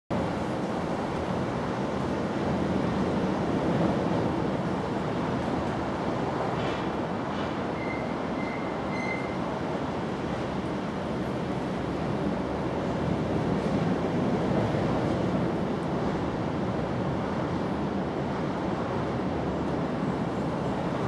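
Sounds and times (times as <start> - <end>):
steady rushing background noise: 0.1 - 21.0.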